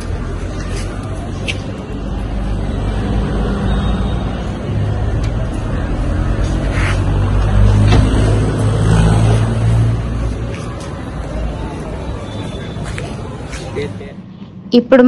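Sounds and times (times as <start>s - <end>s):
vehicle engine humming: 0.0s - 14.6s.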